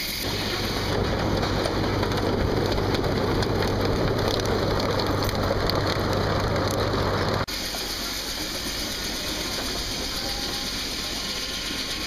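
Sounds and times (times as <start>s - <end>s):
conveyor and motor running: 0.0s - 12.0s
quieter machine noise: 0.0s - 12.0s.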